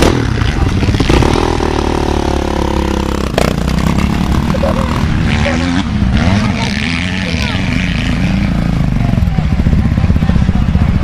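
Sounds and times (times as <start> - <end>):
dirt bike engines running: 0.0 - 11.0.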